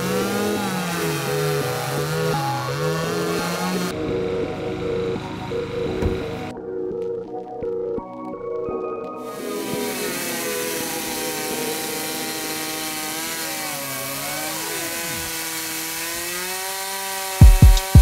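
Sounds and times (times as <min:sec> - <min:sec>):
chainsaw engine running: 0:00.0 - 0:06.6, 0:09.2 - 0:18.0.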